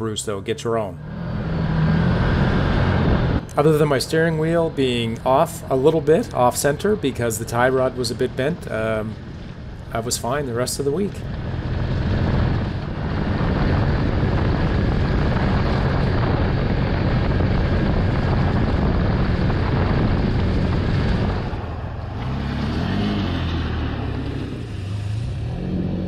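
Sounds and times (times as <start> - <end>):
tires on gravel: 0.0 - 26.0
engine revving: 0.6 - 26.0
utility vehicle engine running: 0.6 - 26.0.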